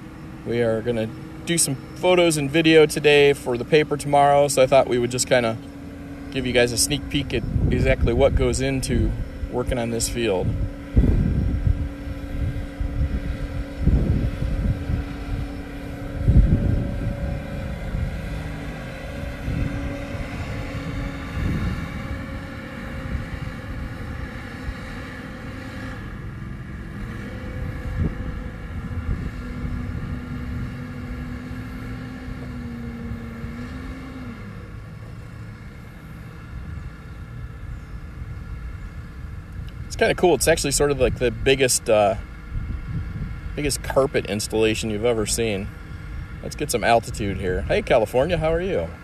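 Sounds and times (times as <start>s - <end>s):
wind buffeting microphone: 0.0s - 34.3s, 35.9s - 49.0s
drone propellers humming: 0.0s - 49.0s.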